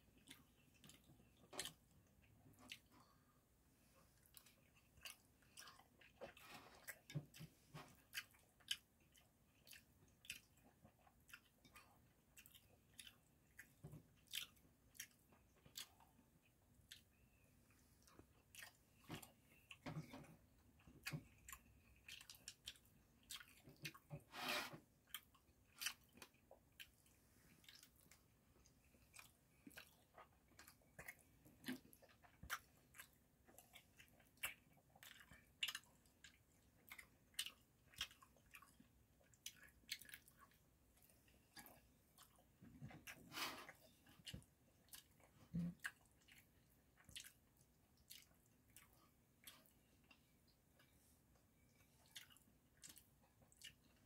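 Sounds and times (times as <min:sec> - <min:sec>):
wet chewing mouth clicks: 0:04.2 - 0:17.4, 0:18.0 - 0:24.2, 0:25.0 - 0:51.0, 0:51.6 - 0:54.0.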